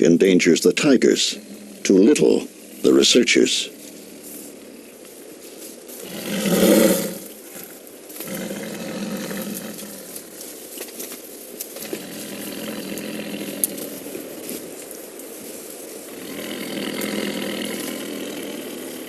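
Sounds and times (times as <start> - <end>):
tiger roaring: 0.0 - 4.9, 5.9 - 10.4, 11.8 - 14.8, 16.0 - 19.0.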